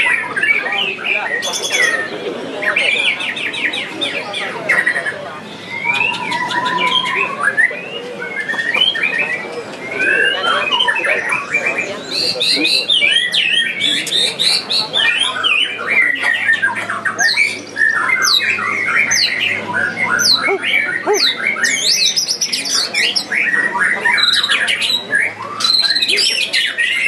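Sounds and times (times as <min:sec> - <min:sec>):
birds singing: 0:00.0 - 0:27.0.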